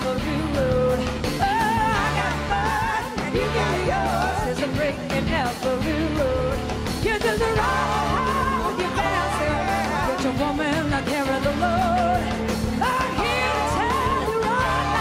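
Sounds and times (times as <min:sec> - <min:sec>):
backing singers: 0:00.0 - 0:15.0
live blues-rock band playing: 0:00.0 - 0:15.0
woman singing lead vocal: 0:00.0 - 0:15.0.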